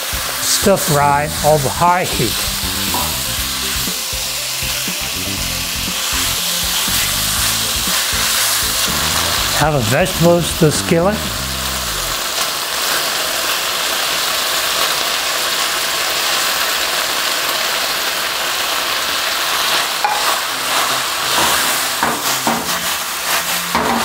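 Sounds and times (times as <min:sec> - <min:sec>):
meat and peppers sizzling in skillet: 0:00.0 - 0:24.0.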